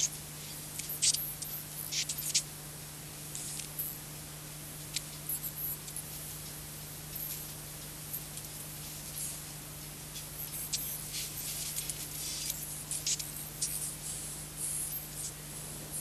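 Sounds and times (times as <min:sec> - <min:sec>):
thin crackles and squeaks: 0:00.0 - 0:02.5, 0:03.3 - 0:04.0, 0:04.9 - 0:15.4.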